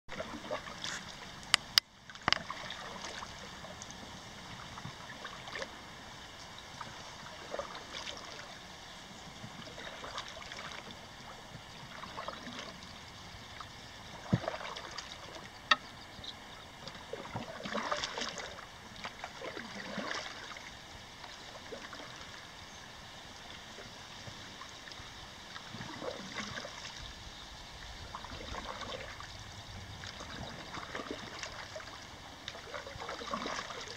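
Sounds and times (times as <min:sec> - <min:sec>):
paddle splashing in water: 0:00.1 - 0:33.9
water trickling off paddle: 0:00.1 - 0:33.9.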